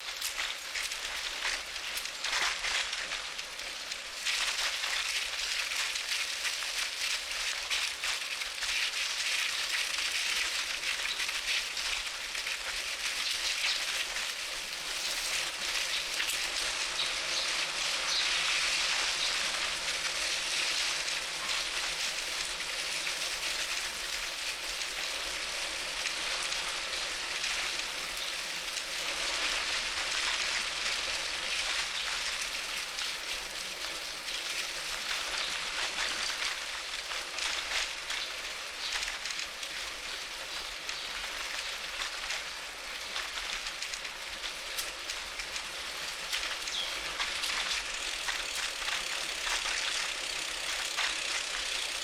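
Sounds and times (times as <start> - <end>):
bicycle tyres hissing on pavement: 0.0 - 52.0.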